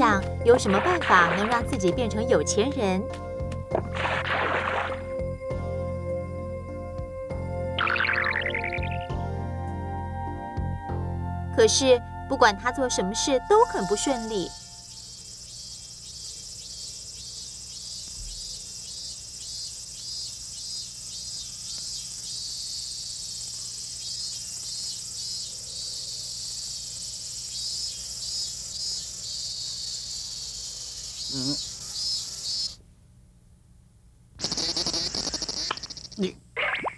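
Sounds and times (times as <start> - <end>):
cicadas buzzing: 0.0 - 5.5, 7.4 - 9.2, 11.6 - 32.8, 34.4 - 36.7.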